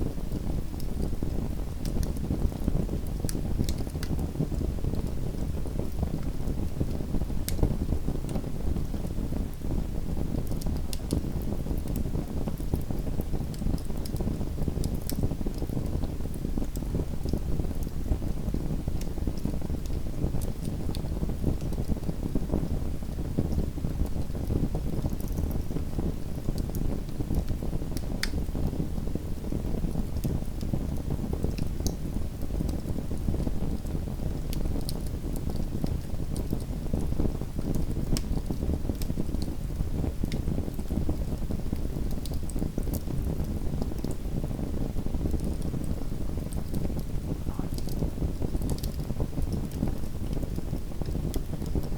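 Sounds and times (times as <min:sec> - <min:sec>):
fire crackles and pops: 0:00.0 - 0:51.9
wood fire burning: 0:00.0 - 0:51.9.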